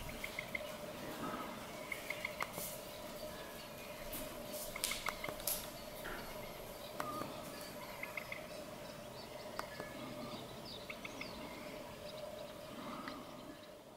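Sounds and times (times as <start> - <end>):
bird chirps and calls: 0.0 - 0.8, 1.8 - 13.8
faint hum: 0.0 - 13.9.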